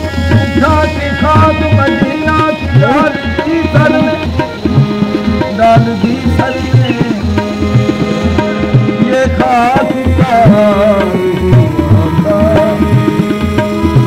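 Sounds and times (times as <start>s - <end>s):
hand drum beat: 0.0s - 14.0s
ornamented sung melody: 0.0s - 14.0s.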